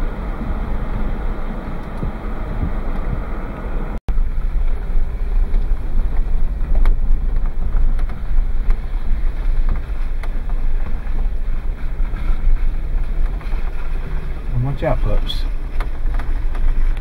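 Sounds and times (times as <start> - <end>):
vehicle road noise rumble: 0.0 - 17.0
wind buffeting microphone: 0.0 - 17.0.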